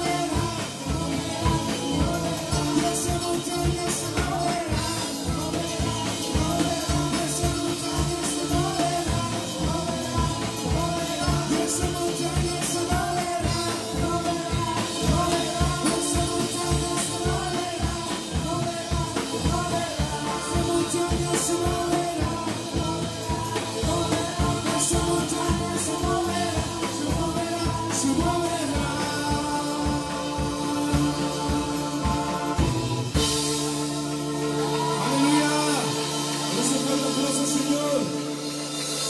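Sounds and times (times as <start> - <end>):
drum kit: 0.0 - 39.0
electric bass: 0.0 - 39.0
keyboard: 0.0 - 39.0
people singing: 0.0 - 39.0.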